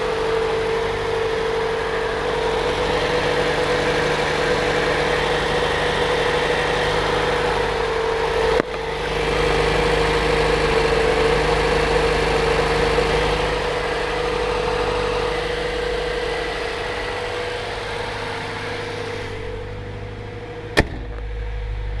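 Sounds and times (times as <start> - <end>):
car engine idling: 0.0 - 22.0
steady whine: 0.0 - 22.0.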